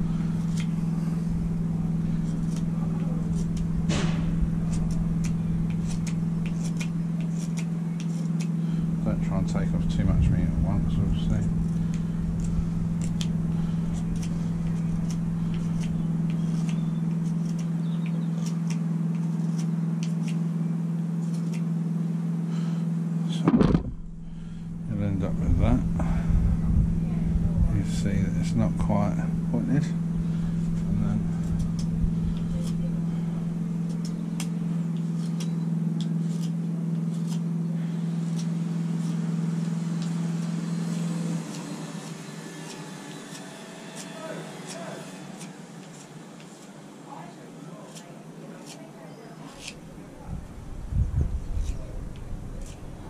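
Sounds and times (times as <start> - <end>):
knife shaving wood: 0.0 - 22.9, 29.6 - 53.0
low hum: 0.0 - 42.4, 49.8 - 53.0.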